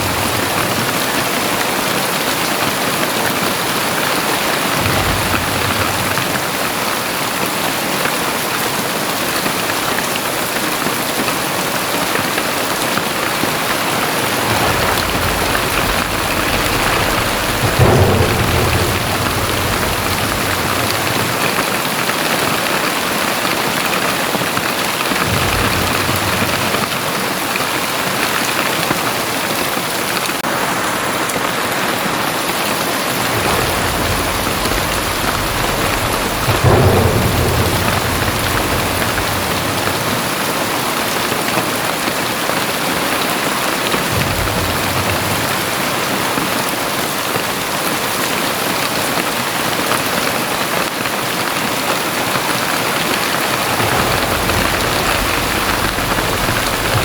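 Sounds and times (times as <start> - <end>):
heavy rain pouring: 0.0 - 57.0
thunder rolling and cracking: 0.0 - 57.0.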